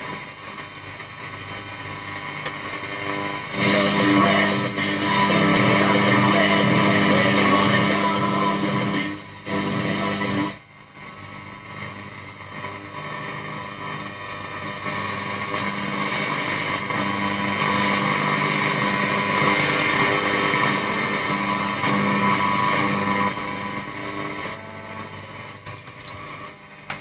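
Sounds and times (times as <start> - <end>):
radio broadcast from loudspeaker: 0.0 - 27.0.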